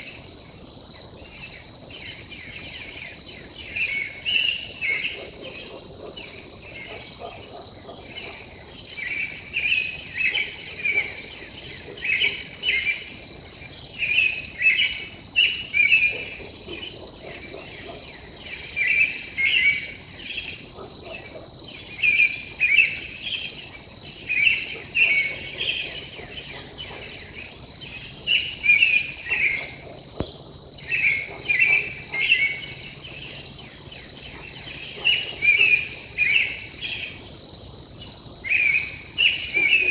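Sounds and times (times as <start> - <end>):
high-pitched insect chorus: 0.0 - 39.9
songbird singing: 1.0 - 39.9.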